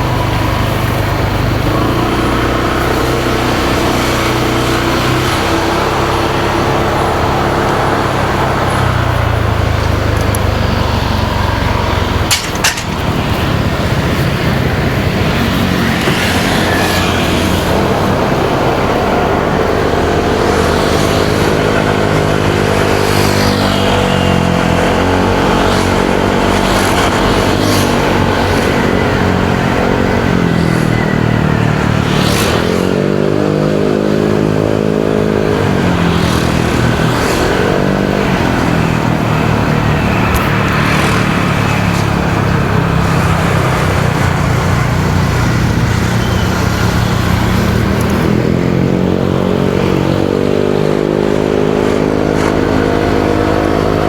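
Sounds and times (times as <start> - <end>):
motorcycle engine revving: 0.0 - 54.0
road and traffic noise: 0.0 - 54.0.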